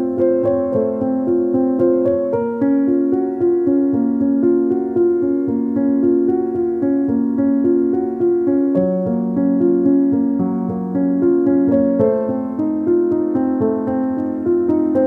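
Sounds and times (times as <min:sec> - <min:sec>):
slow keyboard melody: 0:00.0 - 0:15.0.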